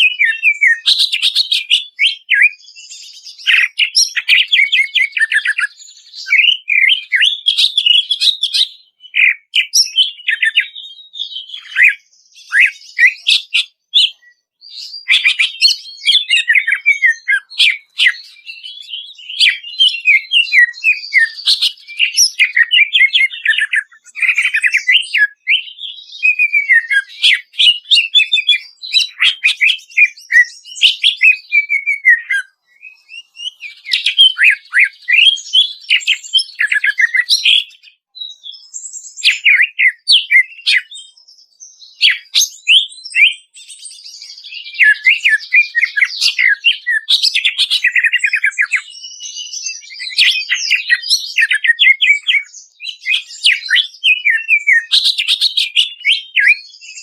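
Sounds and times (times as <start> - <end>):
bird singing whistled slurs: 0.0 - 57.0.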